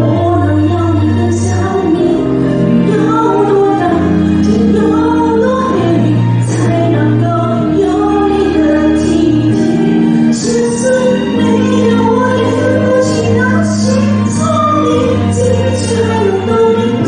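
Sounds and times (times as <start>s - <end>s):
instrumental accompaniment: 0.0s - 17.0s
woman singing pop ballad: 0.0s - 17.0s.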